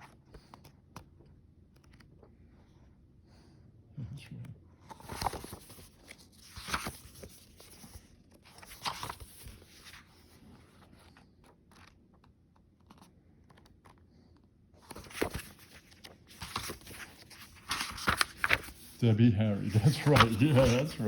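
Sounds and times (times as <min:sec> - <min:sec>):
book pages rustling: 0:00.0 - 0:02.4, 0:04.8 - 0:21.0.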